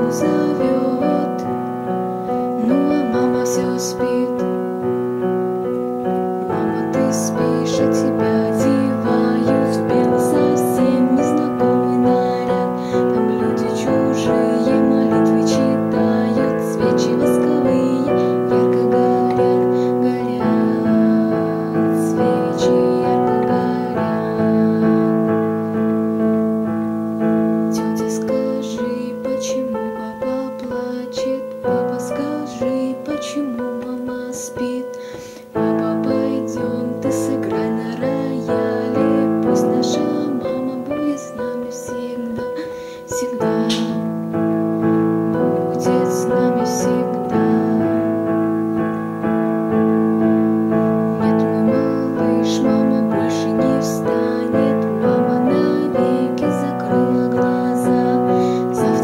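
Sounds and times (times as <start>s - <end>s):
slow piano melody: 0.0s - 59.0s.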